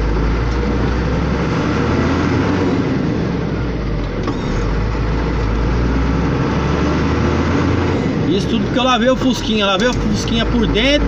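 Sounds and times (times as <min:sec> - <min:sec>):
truck engine running: 0:00.0 - 0:11.0
tyres on wet road: 0:00.0 - 0:11.0.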